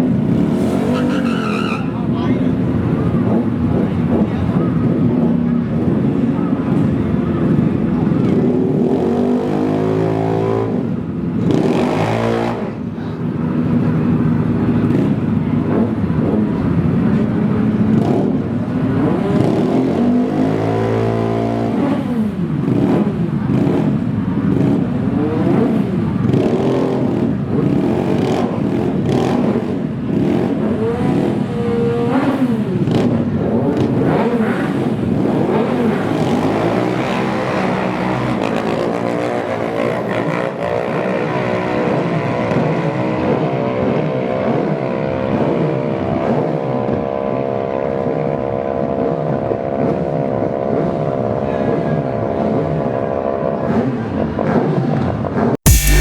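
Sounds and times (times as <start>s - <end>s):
drag racing engines revving: 0.0s - 46.4s, 55.7s - 56.0s.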